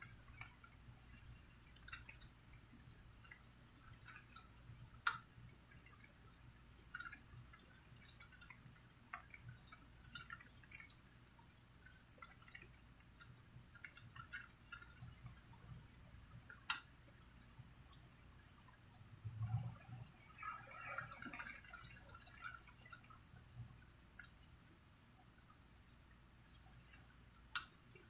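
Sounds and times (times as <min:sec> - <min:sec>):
water drops dripping: 0:00.0 - 0:28.0.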